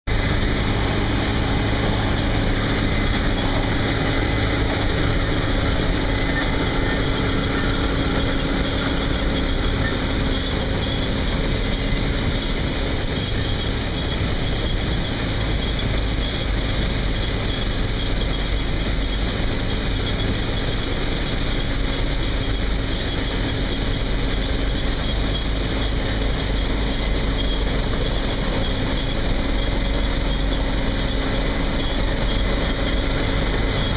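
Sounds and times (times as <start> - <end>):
combine harvester running: 0.1 - 33.9.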